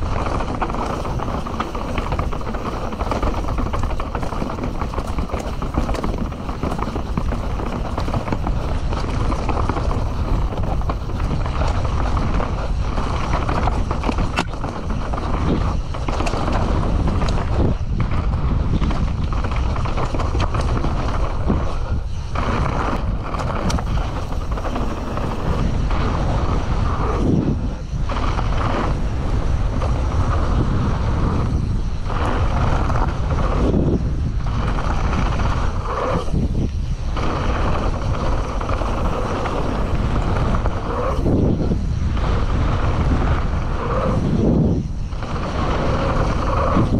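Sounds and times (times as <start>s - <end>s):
bike clicks and rattles: 0.0s - 46.9s
bike tyres rolling on gravel: 0.0s - 46.9s
wind rush on microphone: 0.0s - 46.9s.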